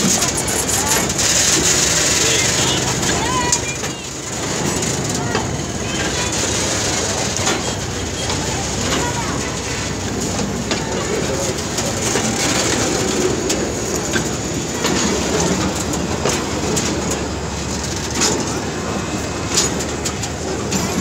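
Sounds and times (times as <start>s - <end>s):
freight train wheels rumbling: 0.0s - 21.0s
wheels clacking over rail joints: 0.0s - 21.0s.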